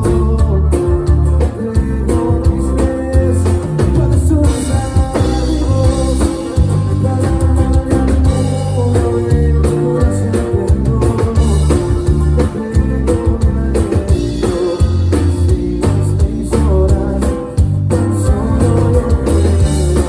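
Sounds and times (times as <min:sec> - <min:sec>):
drum kit hits: 0:00.0 - 0:20.0
guitar: 0:00.0 - 0:20.0
heavy bass line: 0:00.0 - 0:20.0
person singing: 0:00.0 - 0:20.0.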